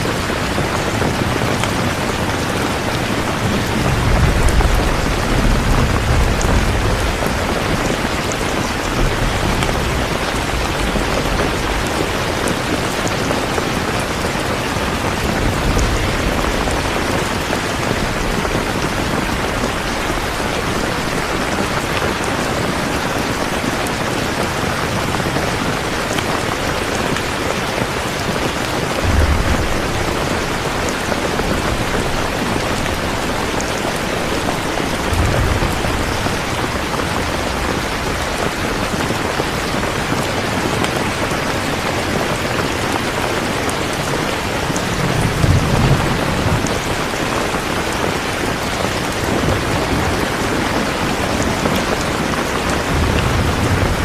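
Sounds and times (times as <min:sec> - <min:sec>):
heavy rain: 0:00.0 - 0:54.0
distant thunder rumbles: 0:00.1 - 0:23.5, 0:28.2 - 0:41.2, 0:44.2 - 0:54.0.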